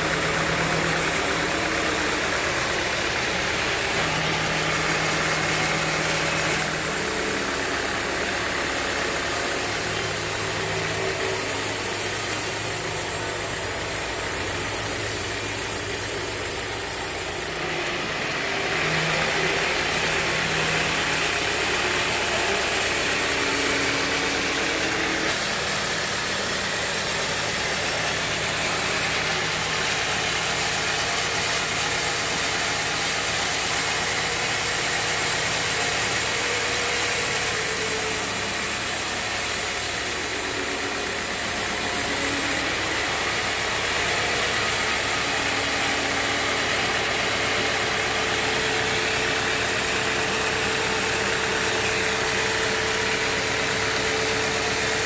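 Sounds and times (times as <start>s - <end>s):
band saw motor running: 0.0s - 55.0s.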